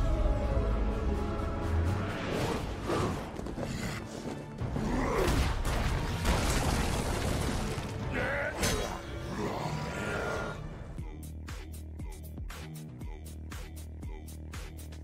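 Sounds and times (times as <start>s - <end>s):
action film music: 0.0s - 15.0s.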